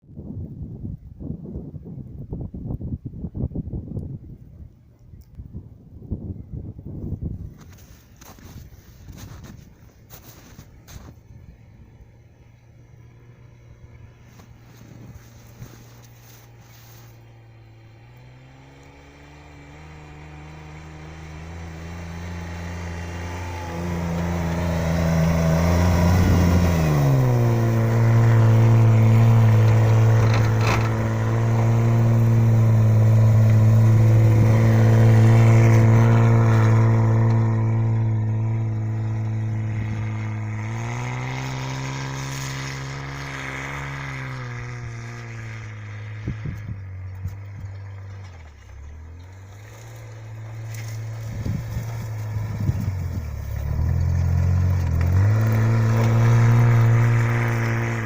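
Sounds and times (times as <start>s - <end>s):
car engine accelerating: 8.2s - 58.0s.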